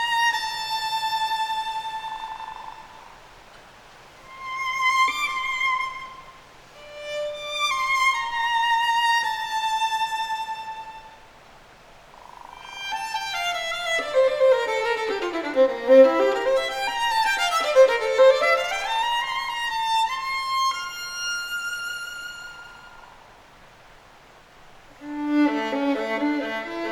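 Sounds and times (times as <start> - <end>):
solo violin playing: 0.0 - 3.1, 4.2 - 11.4, 12.6 - 23.2, 24.9 - 26.9.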